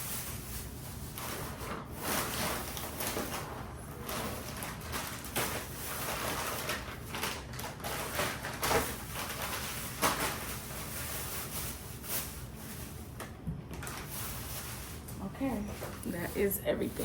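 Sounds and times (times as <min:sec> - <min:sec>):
groceries rustling and clunking: 0:00.0 - 0:17.0.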